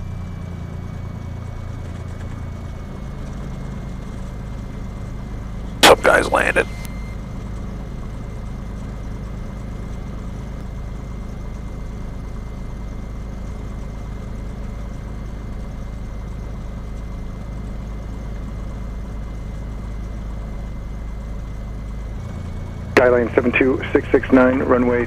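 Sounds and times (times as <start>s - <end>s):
propeller plane engine idling: 0.0s - 25.0s.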